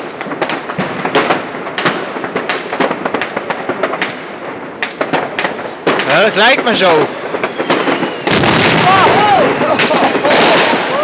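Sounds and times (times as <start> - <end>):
firecrackers crackling: 0.0 - 11.0
firework bangs: 0.0 - 11.0.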